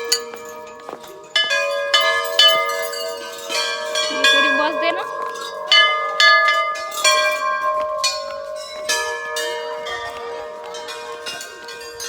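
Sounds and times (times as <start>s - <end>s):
temple bells ringing: 0.0s - 12.0s.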